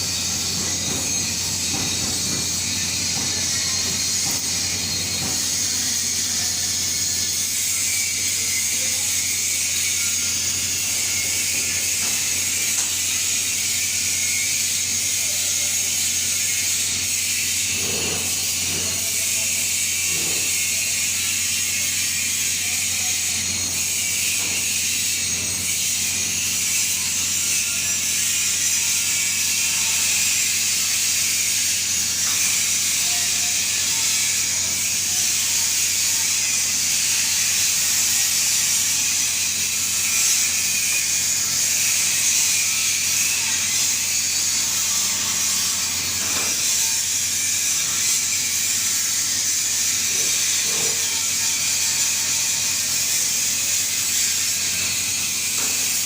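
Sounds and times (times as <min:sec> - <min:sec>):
welding arc hissing: 0:00.0 - 0:56.0.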